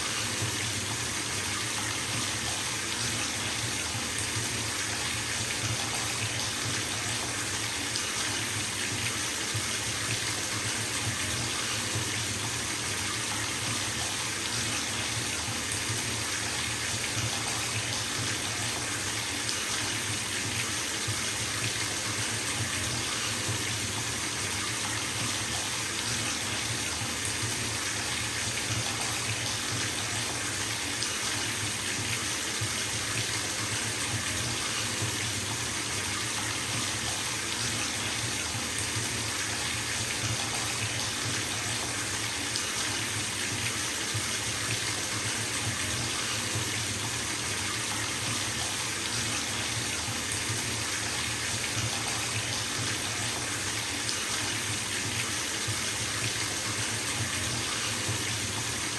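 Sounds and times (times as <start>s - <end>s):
water running into bathtub: 0.0s - 58.9s.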